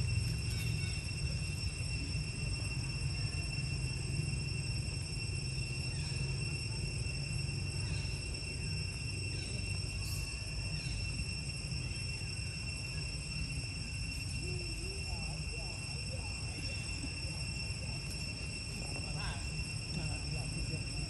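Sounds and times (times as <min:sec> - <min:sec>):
insects droning: 0:00.0 - 0:21.0
low background rumble: 0:00.0 - 0:21.0.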